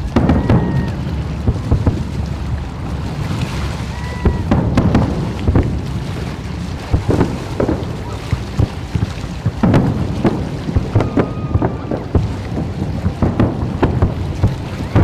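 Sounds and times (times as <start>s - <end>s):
fireworks booming and cracking: 0.0s - 15.0s
steady low rumble: 0.0s - 15.0s.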